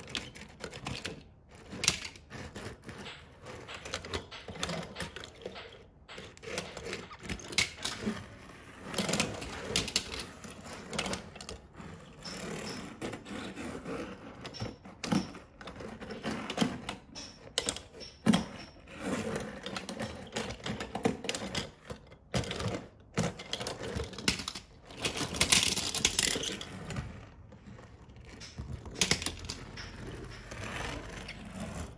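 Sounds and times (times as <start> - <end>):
toy cars clattering on wood: 0.0 - 31.9.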